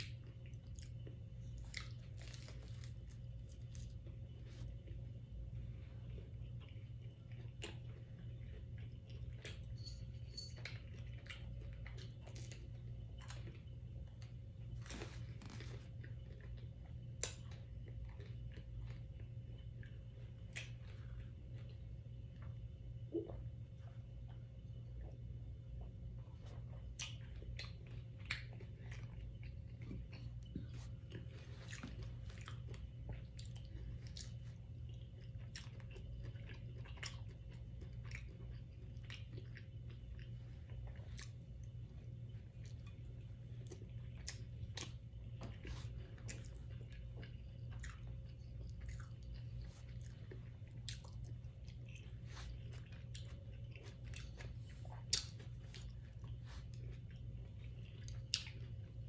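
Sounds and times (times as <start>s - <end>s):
chewing and wet mouth clicks: 0.0s - 5.0s, 6.1s - 9.8s, 10.5s - 23.5s, 25.8s - 59.0s
steady low hum: 0.0s - 59.0s.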